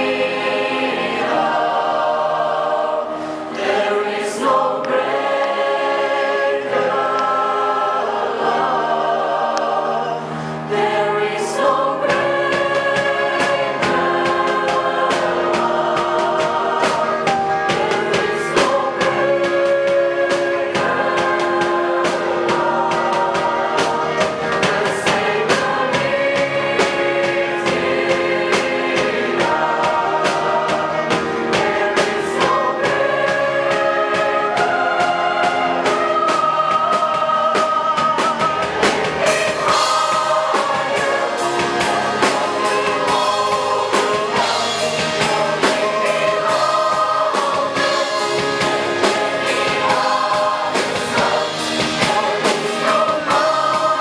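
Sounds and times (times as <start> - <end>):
girls' choir singing: 0.0 - 54.0.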